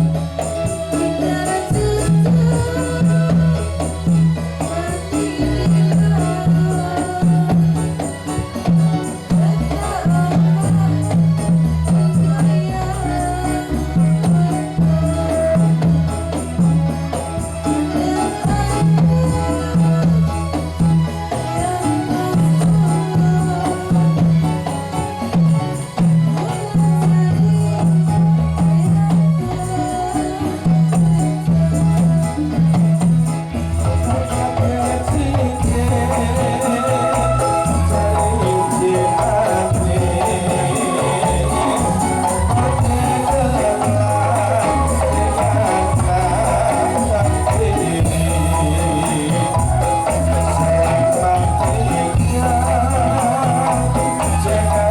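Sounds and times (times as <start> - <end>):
drums beating: 0.0 - 54.9
jingling percussion: 0.0 - 54.9
melodic line: 0.0 - 54.9.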